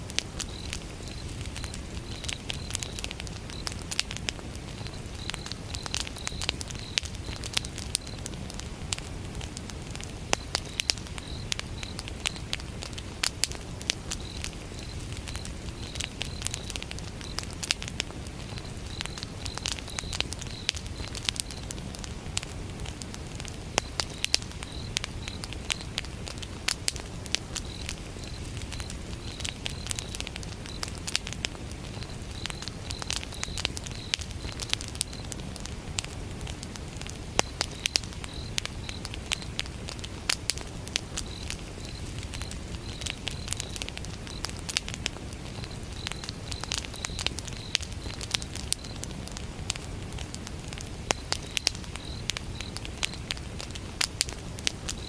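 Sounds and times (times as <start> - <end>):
wood fire crackling: 0.0 - 55.0
cricket chirping: 0.1 - 55.0.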